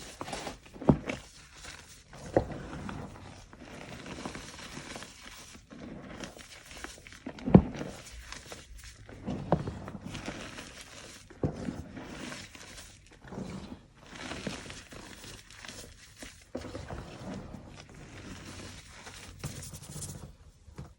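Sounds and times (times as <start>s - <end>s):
chalk crunching: 0.0s - 20.4s.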